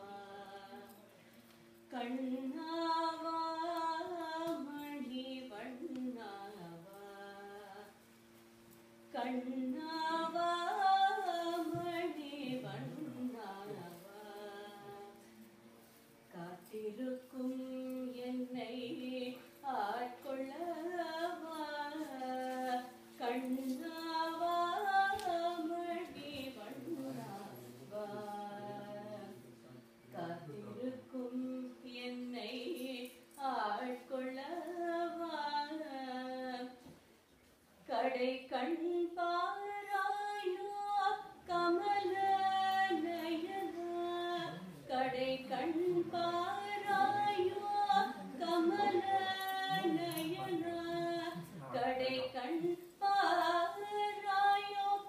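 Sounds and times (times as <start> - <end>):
woman singing unaccompanied: 0.0 - 1.1, 1.9 - 8.0, 9.1 - 15.3, 16.3 - 29.5, 30.1 - 37.0, 37.8 - 55.0.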